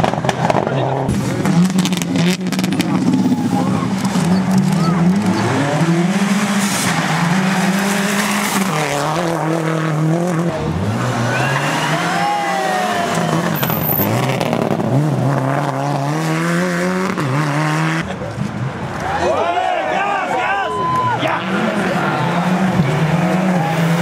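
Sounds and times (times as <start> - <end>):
rally car engines revving: 0.0 - 24.0.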